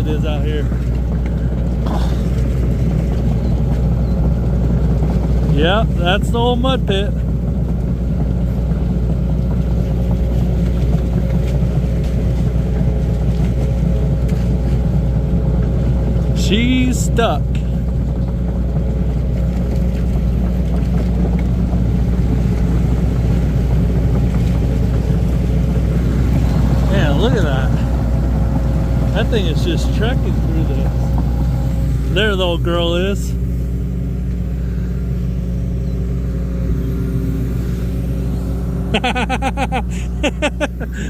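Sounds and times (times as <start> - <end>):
loader engine droning: 0.0 - 41.0.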